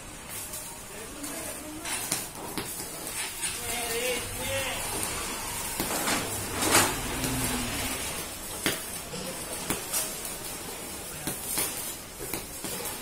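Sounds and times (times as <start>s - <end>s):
welding arc crackling and popping: 0.0s - 13.0s.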